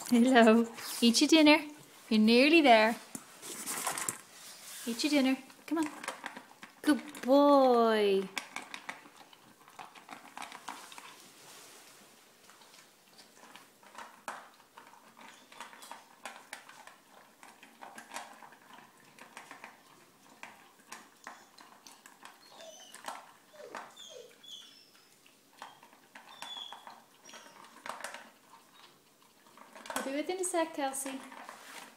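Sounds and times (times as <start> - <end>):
puppy crunching dry kibble: 0.0 - 31.9.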